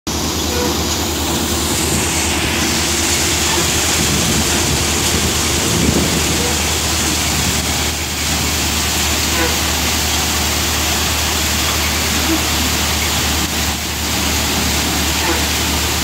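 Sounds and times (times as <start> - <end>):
low drive hum: 0.1 - 16.0
threshing machine whirring rush: 0.1 - 16.0.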